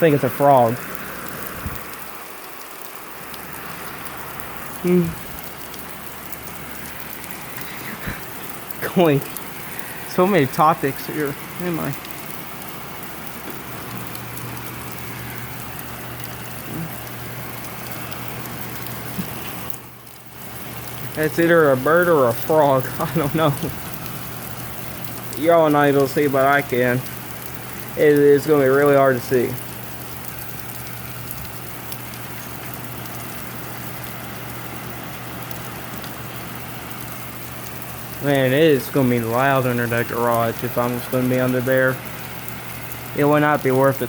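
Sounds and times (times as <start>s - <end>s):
heavy rain pouring: 0.0s - 44.0s
low steady hum: 0.0s - 44.0s
raindrops ticking nearby: 0.0s - 44.0s.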